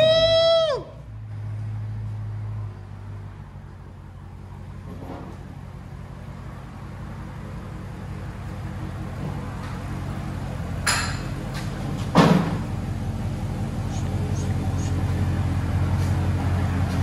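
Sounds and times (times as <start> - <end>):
car engine revving and idling: 0.0 - 17.0
supercharger whine: 0.0 - 17.0.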